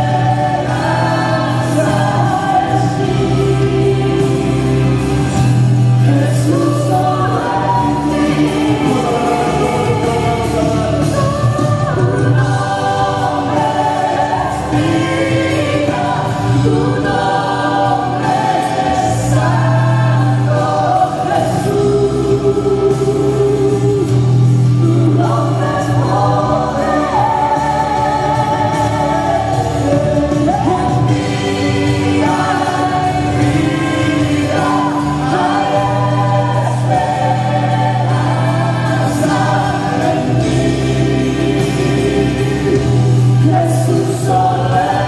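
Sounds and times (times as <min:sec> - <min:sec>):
low musical accompaniment: 0:00.0 - 0:45.0
voices singing in harmony: 0:00.0 - 0:45.0.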